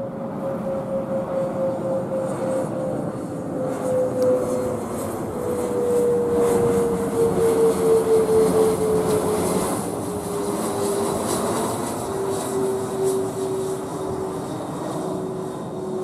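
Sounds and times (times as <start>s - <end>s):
jet aircraft passing overhead: 0.0s - 16.0s.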